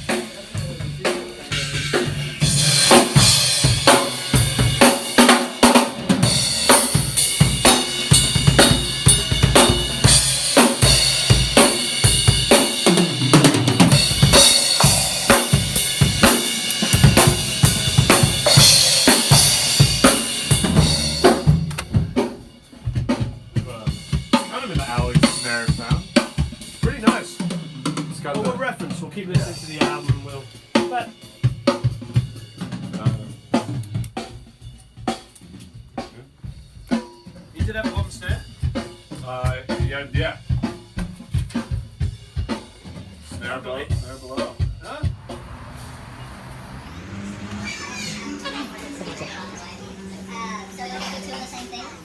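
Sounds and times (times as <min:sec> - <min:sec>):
rock drum kit playing: 0:00.0 - 0:51.6.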